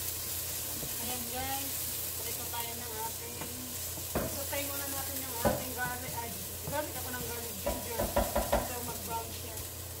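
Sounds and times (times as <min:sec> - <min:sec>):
spatula stirring: 0:00.0 - 0:09.2
food sizzling in oil: 0:00.0 - 0:10.0.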